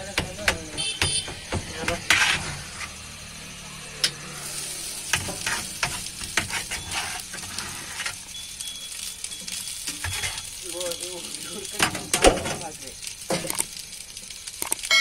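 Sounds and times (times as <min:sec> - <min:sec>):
rice sizzling in a wok: 0:00.0 - 0:15.0.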